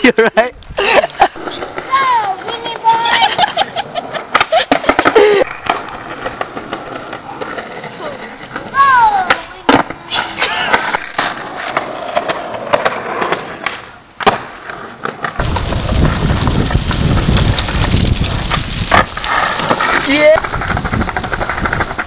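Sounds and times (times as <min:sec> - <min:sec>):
skateboard wheels rolling: 0:00.7 - 0:22.0
skateboard clacking on pavement: 0:01.4 - 0:22.0.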